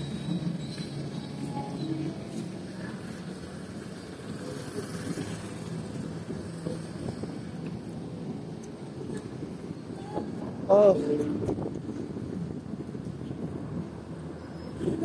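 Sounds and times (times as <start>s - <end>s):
motor vehicle engine hum: 0.0s - 15.0s.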